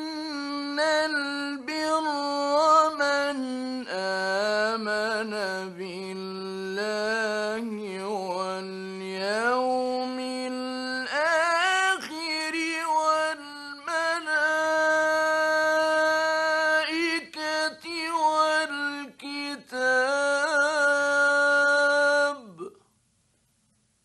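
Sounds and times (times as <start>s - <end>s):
man chanting recitation: 0.0s - 22.8s.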